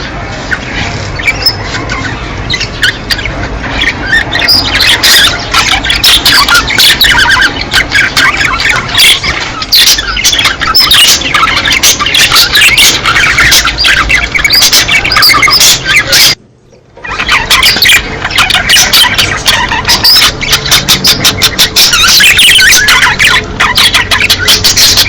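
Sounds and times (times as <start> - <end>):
budgerigars chirping and squawking: 0.0 - 25.0.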